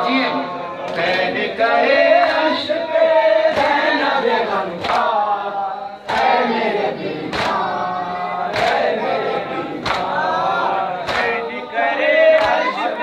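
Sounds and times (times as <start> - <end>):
men chanting a lament in chorus: 0.0 - 13.0.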